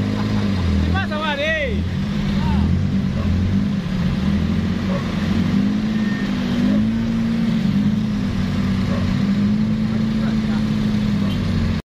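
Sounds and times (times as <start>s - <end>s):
truck engine droning: 0.0s - 11.8s
vehicle engines in traffic: 0.0s - 11.8s.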